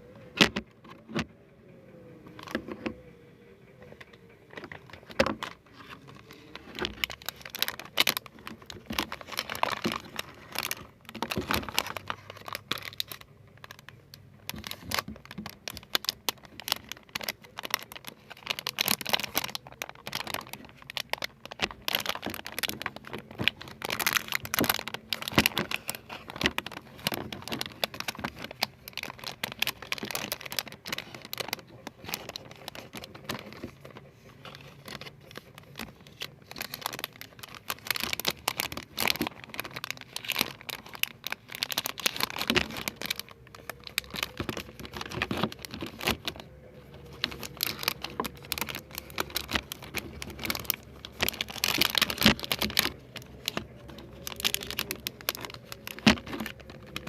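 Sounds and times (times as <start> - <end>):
crinkling and crackling handling: 0.0 - 3.1, 3.7 - 57.0.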